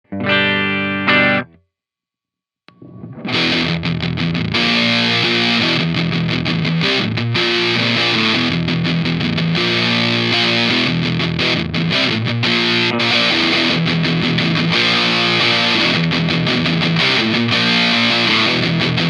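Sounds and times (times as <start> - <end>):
distorted electric guitar riff: 0.0 - 1.6, 2.7 - 19.0.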